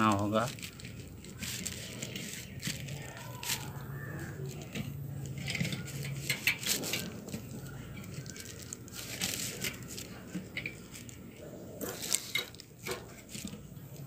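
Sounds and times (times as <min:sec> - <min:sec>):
wire scraping against metal guard: 0:00.0 - 0:14.0.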